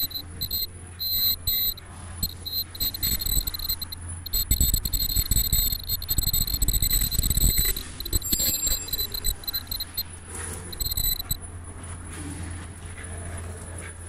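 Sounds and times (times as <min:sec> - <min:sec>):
high-pitched whining tones: 0:00.0 - 0:11.4
machine rattling and clicking: 0:00.0 - 0:11.4
steady low hum: 0:00.0 - 0:14.0.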